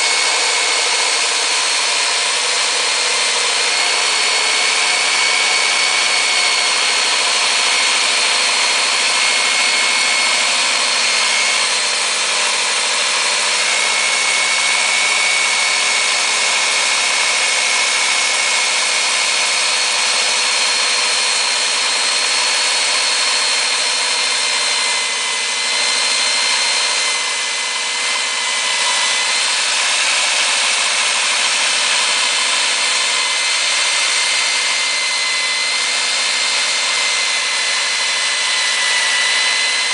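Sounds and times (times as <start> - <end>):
core drill cutting concrete: 0.0 - 39.9.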